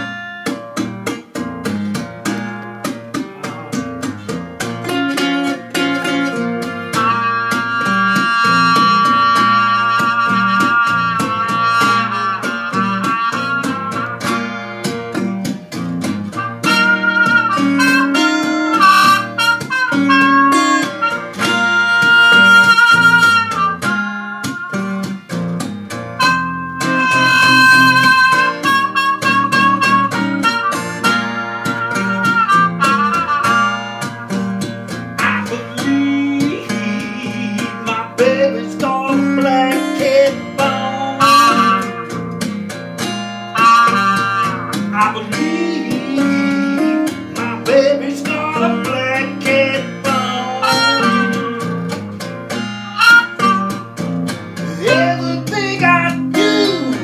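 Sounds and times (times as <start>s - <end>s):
trumpet melody: 0.0s - 0.7s, 4.6s - 54.1s
acoustic guitar strumming: 0.0s - 57.0s.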